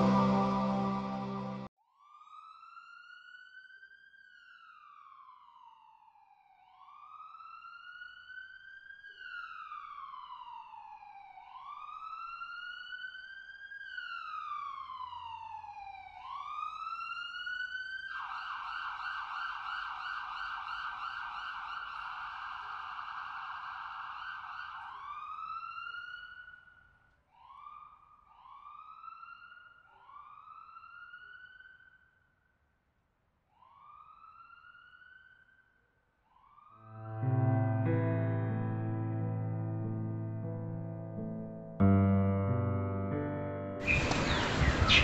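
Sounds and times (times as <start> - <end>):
emergency vehicle siren: 0.0 - 32.1, 33.5 - 35.6, 36.3 - 37.6, 43.8 - 45.0.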